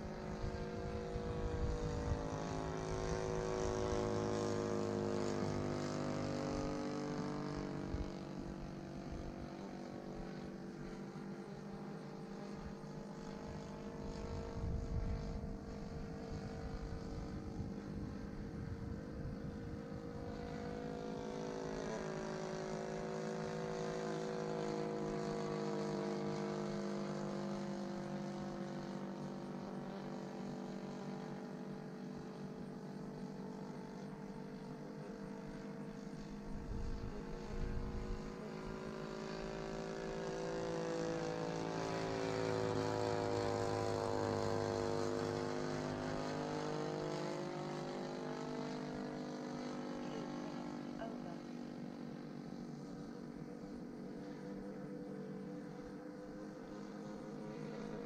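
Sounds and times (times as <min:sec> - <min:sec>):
model airplane motor droning: 0:00.0 - 0:58.0.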